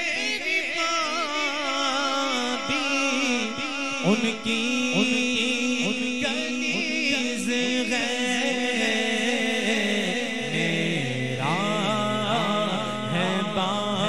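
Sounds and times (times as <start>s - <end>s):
lower male voice chanting: 0.0s - 14.0s
man singing devotional song: 0.0s - 14.0s.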